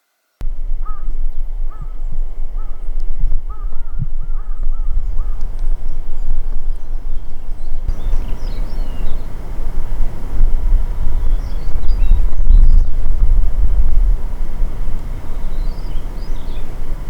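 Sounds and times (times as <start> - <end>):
small birds chirping: 0.4 - 13.2, 14.5 - 17.0
bird calling: 0.4 - 13.4, 14.2 - 17.0
steady low rumble: 0.4 - 17.0.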